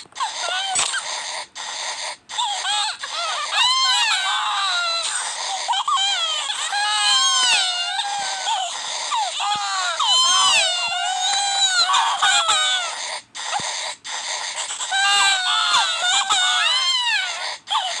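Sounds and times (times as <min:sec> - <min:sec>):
high-pitched voices wailing and sobbing: 0:00.0 - 0:18.0.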